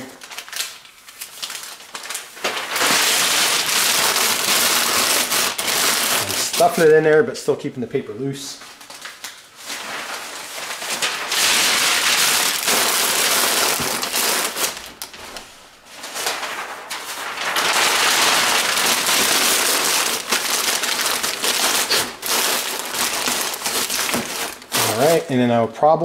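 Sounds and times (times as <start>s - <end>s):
paper crumpling: 0.0s - 7.1s, 8.6s - 25.4s.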